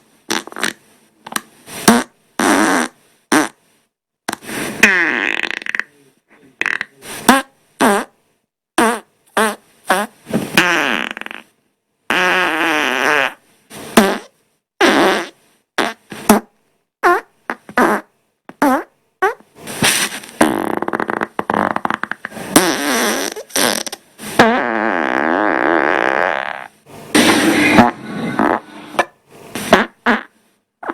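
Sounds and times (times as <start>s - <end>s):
farts: 0.3s - 3.6s, 4.3s - 5.9s, 6.6s - 8.2s, 8.8s - 30.9s.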